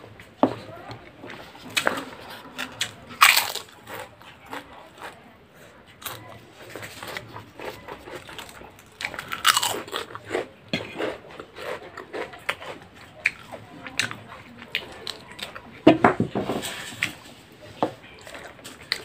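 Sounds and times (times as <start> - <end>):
crunchy chewing: 0.0 - 15.8, 16.7 - 19.0.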